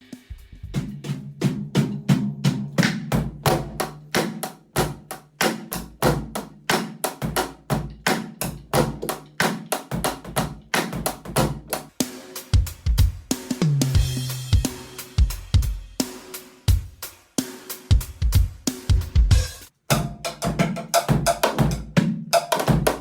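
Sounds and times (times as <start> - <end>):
drum kit being played: 0.0 - 23.0.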